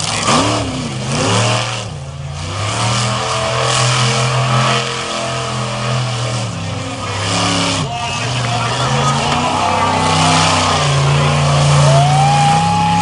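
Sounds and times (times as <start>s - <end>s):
high-pitched exhaust roar: 0.0s - 13.0s
monster truck engine revving: 0.0s - 13.0s.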